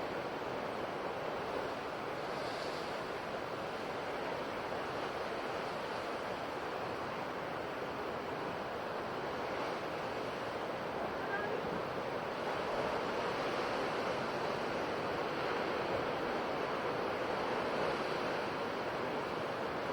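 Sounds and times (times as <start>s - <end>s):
ocean waves washing on shore: 0.0s - 19.9s.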